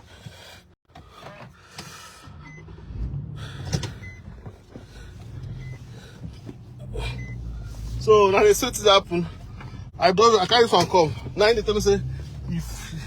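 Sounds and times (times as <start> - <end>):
car engine idling: 0.9 - 13.0.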